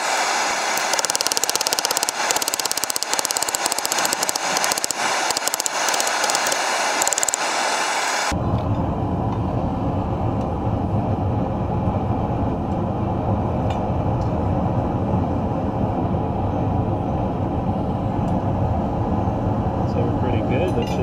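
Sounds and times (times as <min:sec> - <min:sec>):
gas burner rushing: 0:00.0 - 0:21.0.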